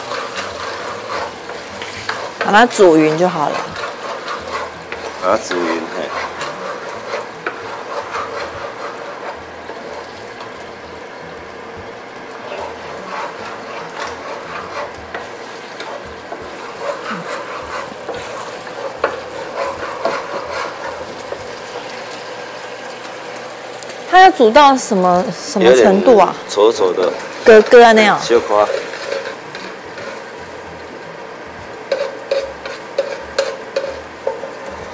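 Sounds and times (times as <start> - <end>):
spatula scraping a wok: 0.0 - 11.3, 12.2 - 23.4, 25.3 - 30.8, 31.8 - 34.9
sauce sizzling: 0.0 - 34.9.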